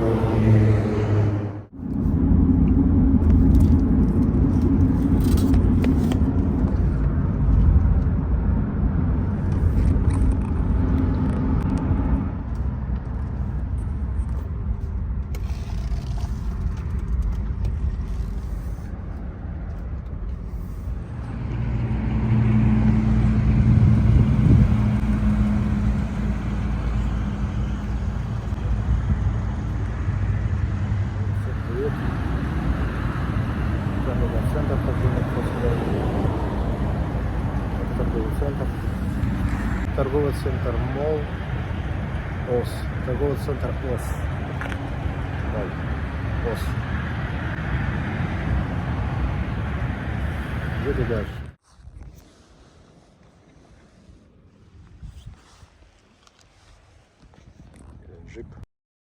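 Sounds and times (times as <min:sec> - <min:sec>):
car engine and road rumble: 0:00.0 - 0:58.6.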